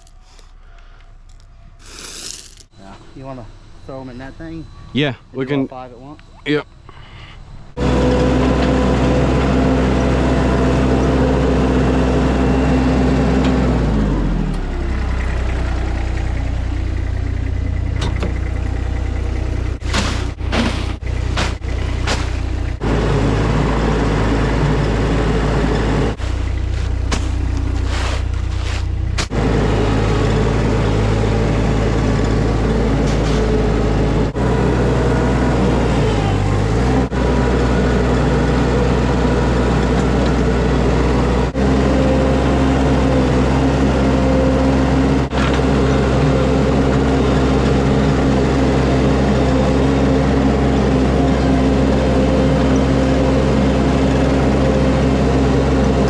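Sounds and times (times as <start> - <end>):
skid steer engine running: 5.8 - 56.0.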